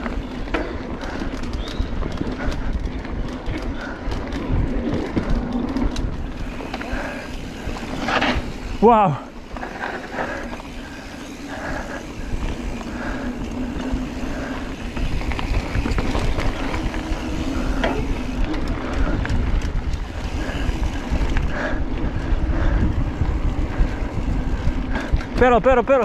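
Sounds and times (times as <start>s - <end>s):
bike clicks and rattles: 0.0s - 26.0s
knobby tyres rumbling on dirt: 0.0s - 26.0s
wind rushing on microphone: 0.0s - 26.0s.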